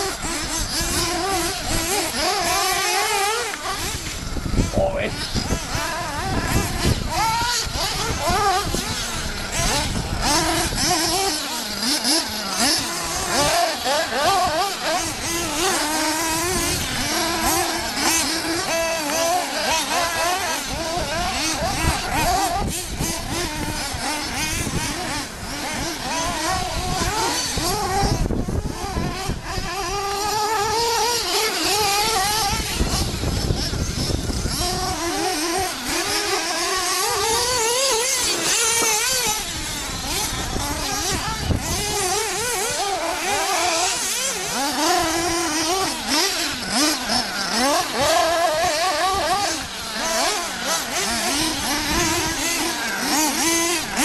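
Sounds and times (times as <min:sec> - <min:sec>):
radio-controlled truck engines revving: 0:00.0 - 0:54.0.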